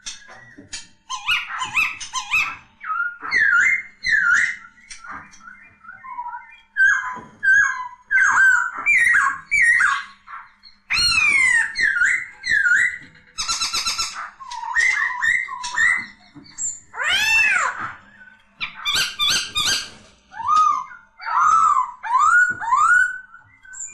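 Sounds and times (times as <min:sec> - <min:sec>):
bird singing whistled notes: 0:00.0 - 0:23.9.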